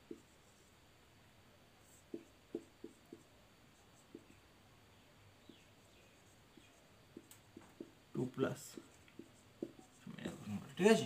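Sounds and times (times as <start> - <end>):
marker writing on a whiteboard: 0.0 - 0.8, 1.8 - 4.5, 5.4 - 11.0
low hiss: 0.0 - 11.0.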